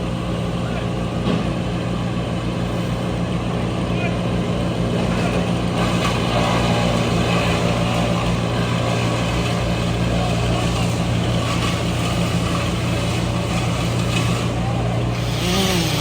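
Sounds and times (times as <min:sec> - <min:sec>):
heavy machinery engine humming: 0:00.0 - 0:16.0.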